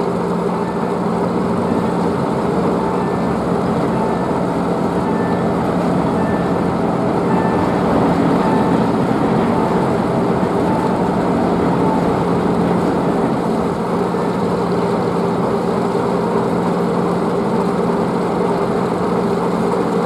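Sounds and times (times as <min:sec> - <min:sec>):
engine idling hum: 0:00.0 - 0:20.0.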